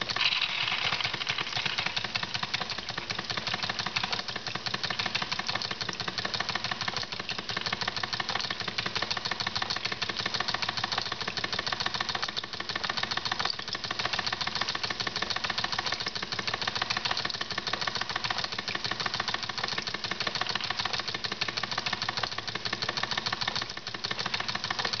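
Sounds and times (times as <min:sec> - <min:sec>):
model steam engine clattering: 0:00.0 - 0:07.0, 0:07.6 - 0:25.0.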